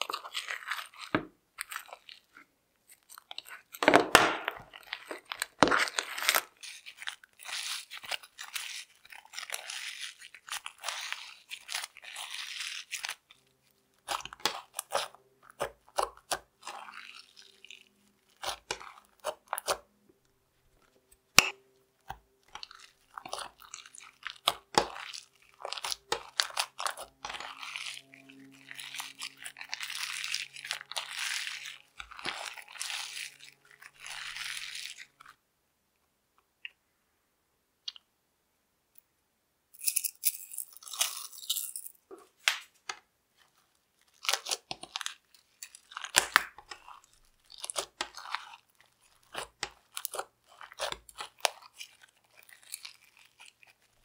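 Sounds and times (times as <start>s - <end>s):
slime squelching and popping: 0.0s - 13.4s, 14.0s - 19.9s, 21.1s - 35.4s, 44.0s - 54.0s.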